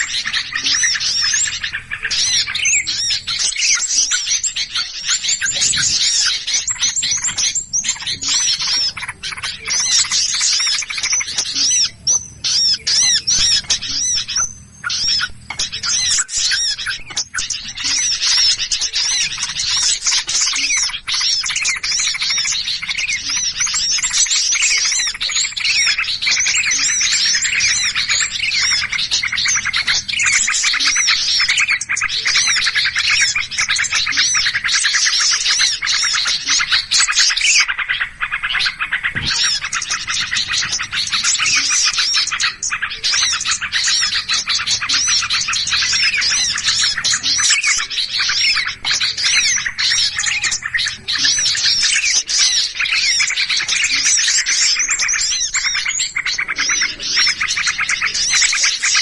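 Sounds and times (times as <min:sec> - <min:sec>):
small birds chattering: 0:00.0 - 0:59.0.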